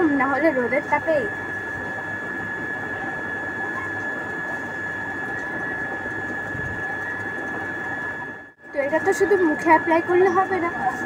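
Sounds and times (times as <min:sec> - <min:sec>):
steady background hum: 0:00.0 - 0:11.0
thin high-pitched whine: 0:00.0 - 0:11.0.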